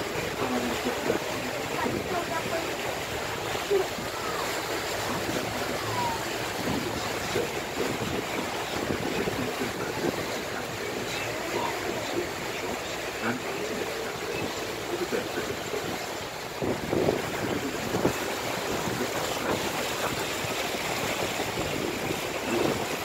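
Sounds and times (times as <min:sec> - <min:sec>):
boat motor: 0:00.0 - 0:23.0
water washing along hull: 0:00.0 - 0:23.0
wind on microphone: 0:00.0 - 0:23.0.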